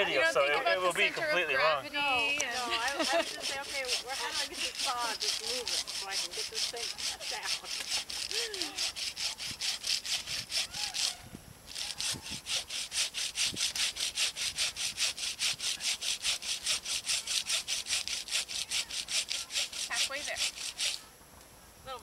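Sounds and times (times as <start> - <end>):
hand saw cutting wood: 2.4 - 21.0.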